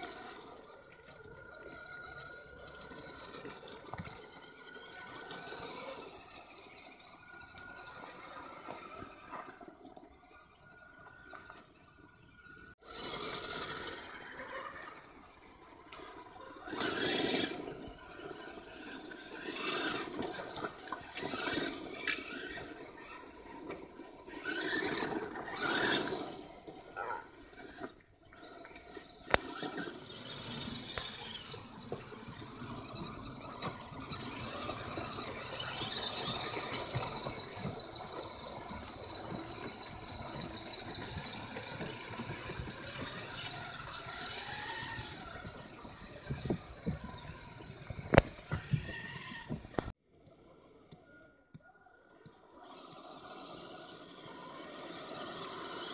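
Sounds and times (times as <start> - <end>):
electric motor whining: 0.0 - 49.9
tyres on wet gravel: 0.0 - 50.9, 52.5 - 55.9.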